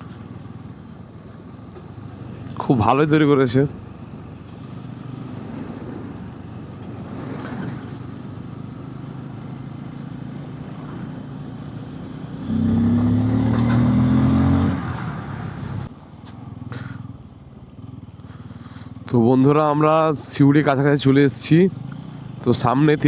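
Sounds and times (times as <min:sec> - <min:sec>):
loud steady engine note: 0:00.0 - 0:23.0
motorcycle engine running: 0:00.0 - 0:23.0
road and wind noise: 0:00.0 - 0:23.0.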